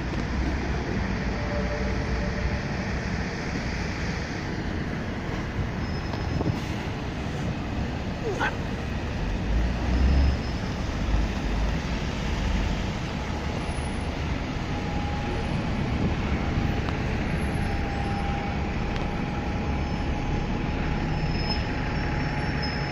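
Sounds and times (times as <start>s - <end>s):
bus diesel engine: 0.0s - 22.9s
city traffic noise: 0.0s - 22.9s.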